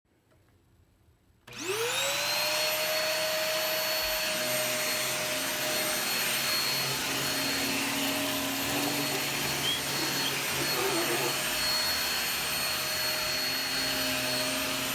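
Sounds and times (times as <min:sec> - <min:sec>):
vacuum cleaner motor whine: 0:01.5 - 0:14.9.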